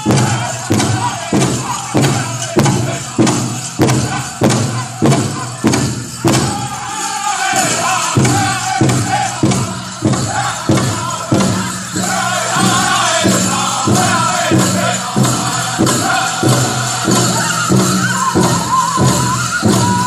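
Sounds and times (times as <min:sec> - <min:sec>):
big drum beating: 0:00.0 - 0:20.0
dancers' bells jingling: 0:00.0 - 0:20.0
group singing: 0:00.0 - 0:20.0.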